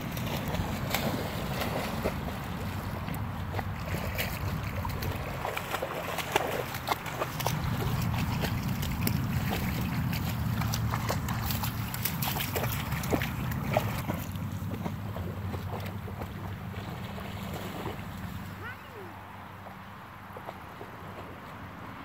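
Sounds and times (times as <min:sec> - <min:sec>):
dog splashing through water: 0:00.0 - 0:18.5.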